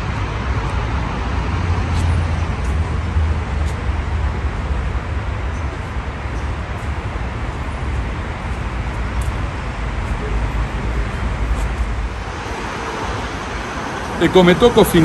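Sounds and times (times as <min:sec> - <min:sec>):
road traffic hiss: 0:00.0 - 0:15.0
traffic low rumble: 0:00.0 - 0:15.0.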